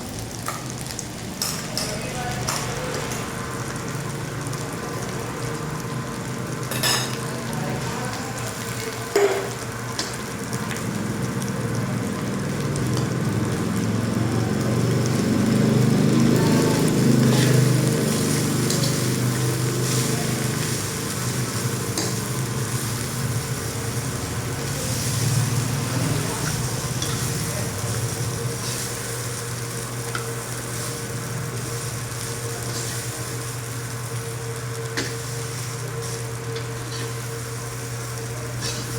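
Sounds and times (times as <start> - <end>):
rice sizzling in a pan: 0.0 - 38.9.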